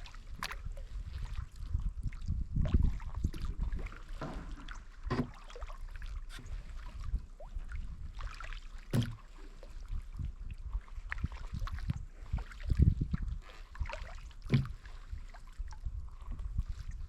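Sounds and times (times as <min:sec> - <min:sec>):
paddle splashing in water: 0:00.0 - 0:17.0.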